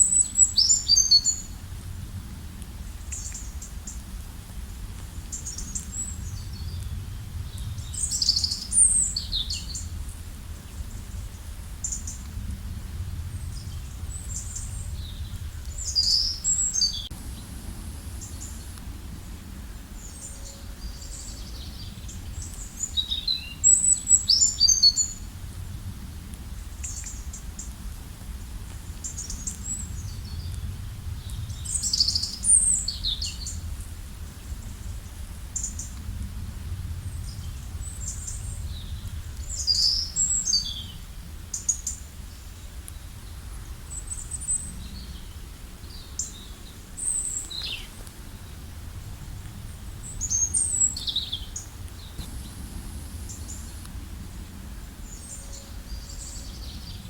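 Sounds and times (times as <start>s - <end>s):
songbirds chirping: 0.0s - 1.7s, 2.9s - 12.5s, 13.1s - 25.4s, 26.6s - 36.1s, 37.0s - 57.0s
low background rumble: 0.2s - 57.0s.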